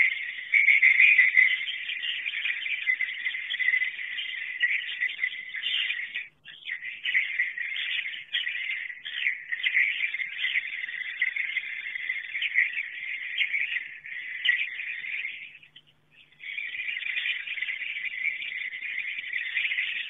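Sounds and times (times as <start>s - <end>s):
swiftlets twittering: 0.0s - 20.0s.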